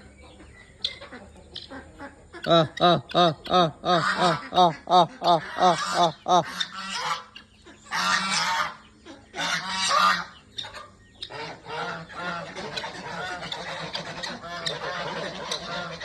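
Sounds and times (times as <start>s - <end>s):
geese honking: 0.8s - 16.0s.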